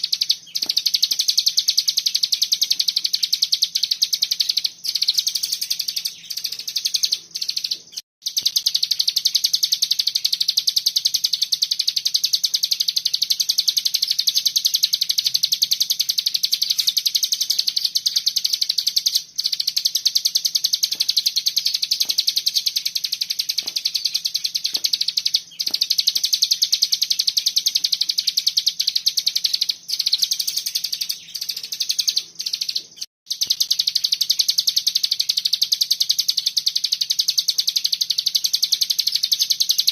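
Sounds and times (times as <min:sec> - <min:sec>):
songbird rapid trill: 0:00.0 - 0:39.9.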